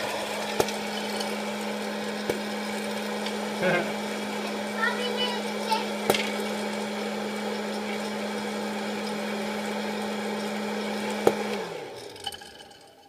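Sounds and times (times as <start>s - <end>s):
popcorn popper fan humming: 0.0s - 13.0s.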